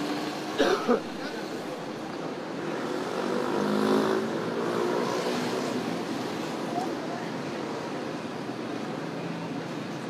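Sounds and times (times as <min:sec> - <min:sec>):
vehicles driving past: 0:00.0 - 0:10.0.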